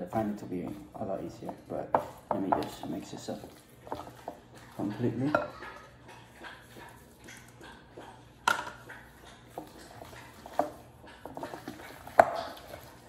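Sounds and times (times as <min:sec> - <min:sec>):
spoon stirring mash: 0:00.0 - 0:13.0.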